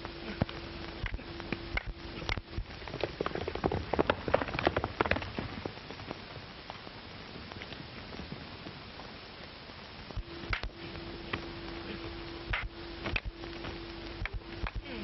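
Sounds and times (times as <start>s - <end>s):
faint clicks: 0.0s - 3.8s, 4.6s - 15.0s
faint steady hum: 0.0s - 15.0s
film soundtrack hiss: 0.0s - 15.0s.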